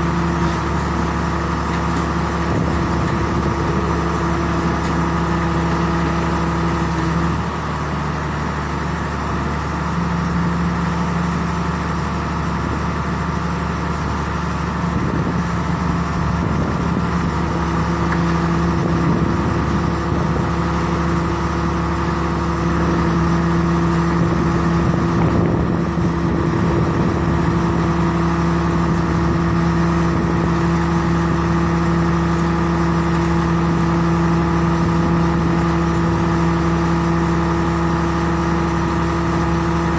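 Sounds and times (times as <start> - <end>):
baler engine running: 0.0 - 39.9.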